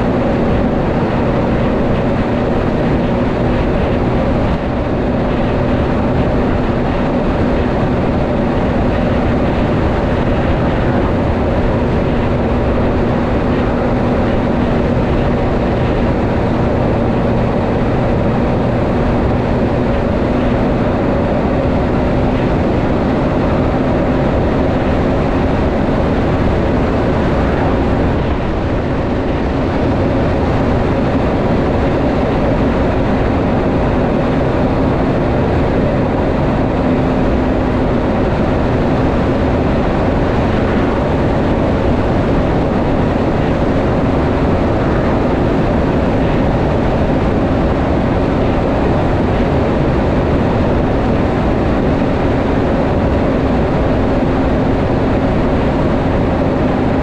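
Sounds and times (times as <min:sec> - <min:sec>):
road and tyre noise: 0:00.0 - 0:57.0
truck diesel engine droning: 0:00.0 - 0:57.0.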